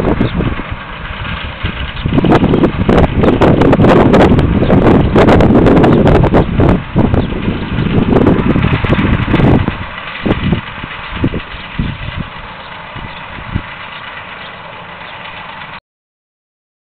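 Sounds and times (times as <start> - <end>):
distant machine hum: 0.0 - 15.8
wind buffeting microphone: 0.0 - 15.8.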